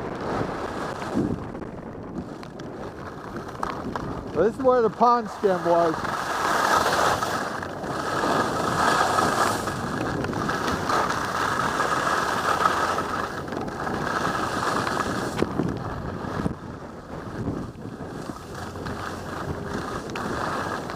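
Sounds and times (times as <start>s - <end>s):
skis scraping over hard snow: 0.0s - 20.9s
wind on microphone: 0.0s - 20.9s.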